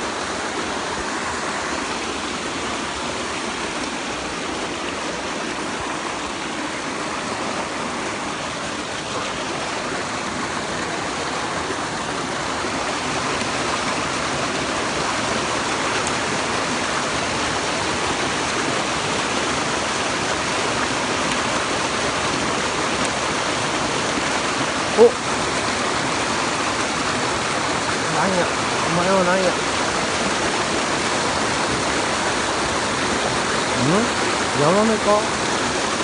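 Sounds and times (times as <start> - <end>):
stream rushing over rocks: 0.0 - 36.0.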